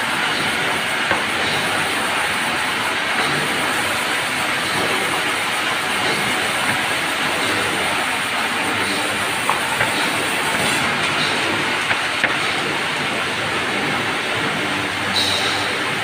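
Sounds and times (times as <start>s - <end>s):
band saw cutting log: 0.0s - 16.0s.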